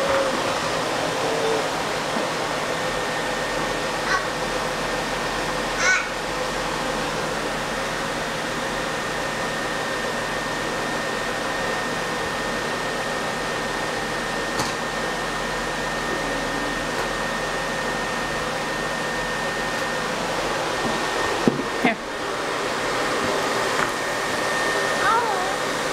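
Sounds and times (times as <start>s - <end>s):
vacuum cleaner running: 0.0s - 25.9s.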